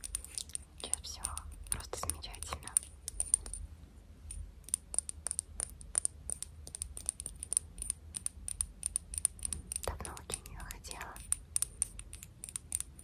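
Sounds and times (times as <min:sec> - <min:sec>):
fingernail clicks and taps: 0:00.0 - 0:03.6, 0:04.3 - 0:13.0.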